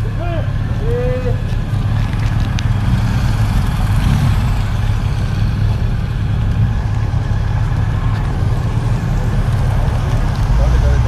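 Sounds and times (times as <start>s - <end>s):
engines rumbling: 0.0s - 11.0s.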